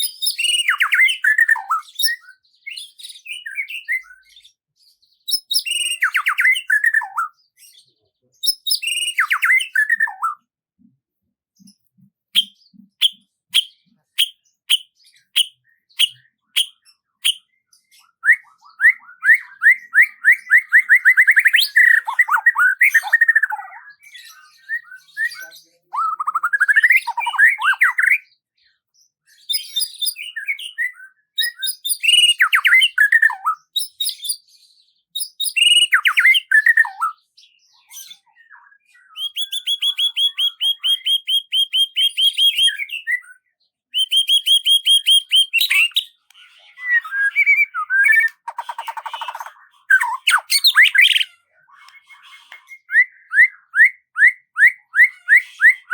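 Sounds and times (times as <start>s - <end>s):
songbird singing: 0.0s - 4.6s, 5.2s - 11.0s, 11.6s - 55.9s.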